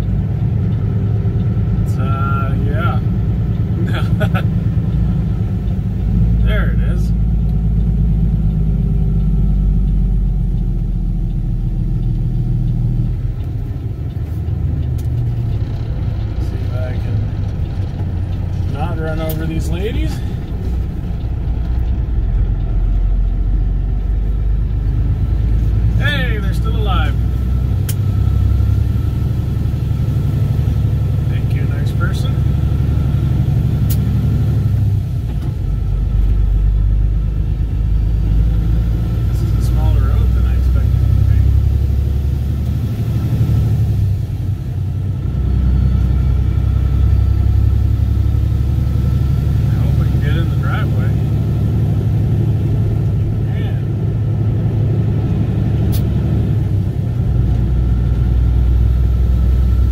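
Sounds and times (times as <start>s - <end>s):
truck diesel engine drone: 0.0s - 59.9s.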